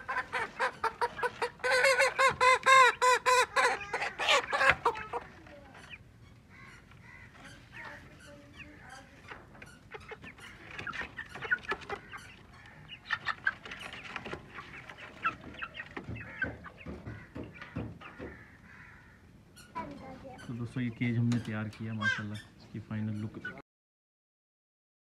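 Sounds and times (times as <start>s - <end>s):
chickens clucking: 0.0s - 23.6s.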